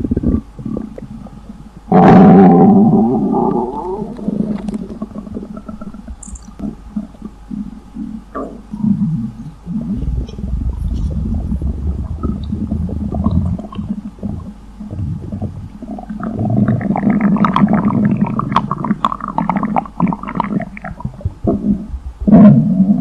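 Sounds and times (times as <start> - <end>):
stomach rumbling and gurgling: 0.0 - 23.0.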